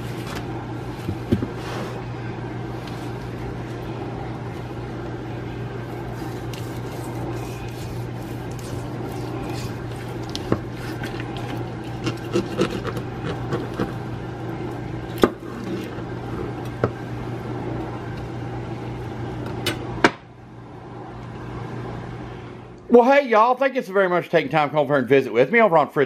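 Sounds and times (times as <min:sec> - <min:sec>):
steady low hum: 0:00.0 - 0:25.5.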